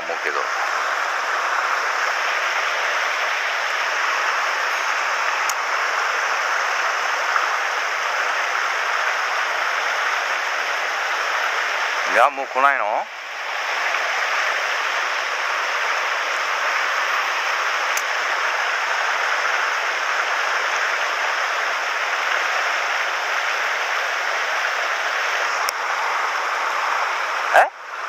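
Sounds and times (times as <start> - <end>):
stream rushing over stones: 0.0 - 28.0.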